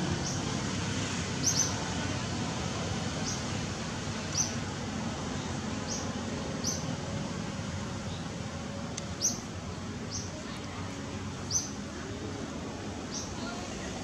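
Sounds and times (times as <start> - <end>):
low rumbling hiss: 0.0 - 14.0.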